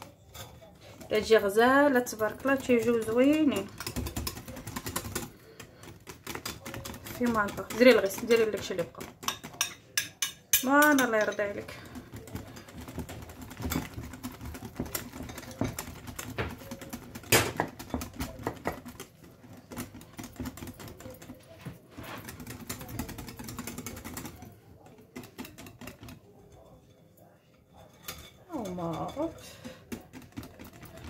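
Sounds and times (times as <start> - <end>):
whisk clicking against glass bowl: 1.2 - 21.4, 22.2 - 26.9.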